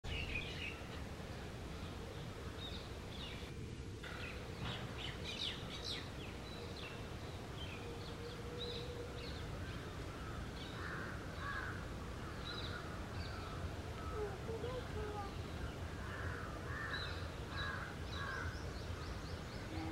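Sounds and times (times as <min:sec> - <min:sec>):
faint steady tone: 0:00.1 - 0:19.9.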